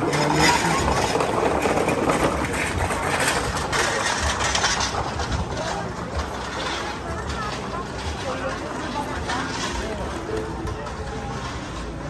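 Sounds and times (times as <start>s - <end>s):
voices of passers-by: 0.0s - 12.0s.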